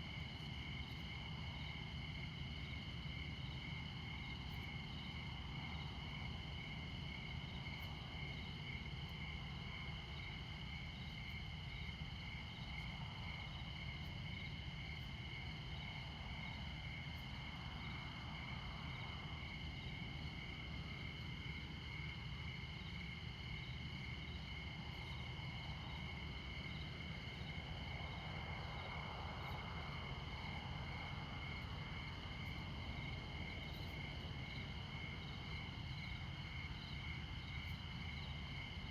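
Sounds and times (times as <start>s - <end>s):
crickets chirping: 0.0s - 38.9s
distant highway traffic rumble: 0.0s - 38.9s.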